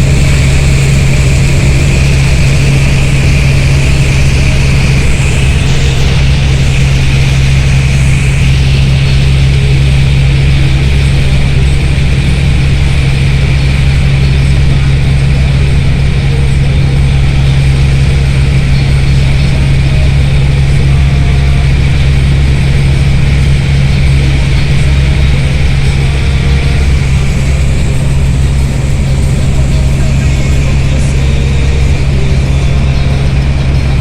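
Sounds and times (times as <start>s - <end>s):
bus engine droning: 0.0s - 34.0s.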